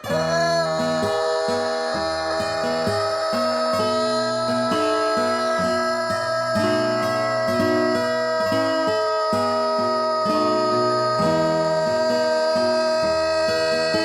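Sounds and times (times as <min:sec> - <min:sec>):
plucked-string melody: 0:00.0 - 0:14.0.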